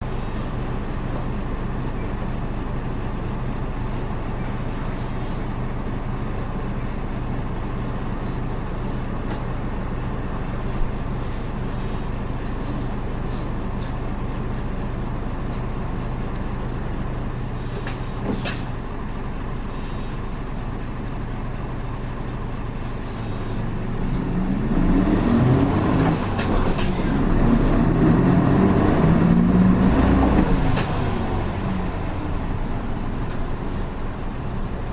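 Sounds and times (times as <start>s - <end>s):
bus diesel engine: 0.0s - 34.9s.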